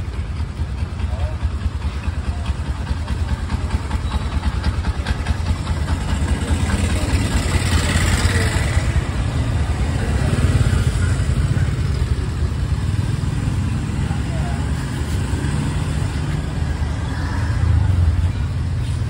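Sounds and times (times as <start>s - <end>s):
motorbike engines in traffic: 0.0s - 19.0s.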